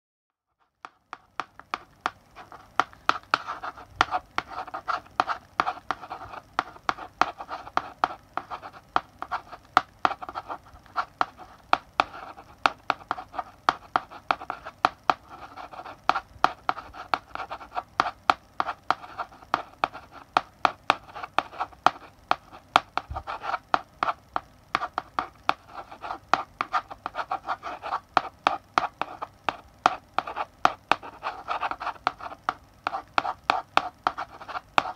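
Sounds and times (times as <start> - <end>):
chalk tapping on blackboard: 0.6 - 34.9
chalk scratching on blackboard: 1.1 - 24.2, 24.8 - 34.9.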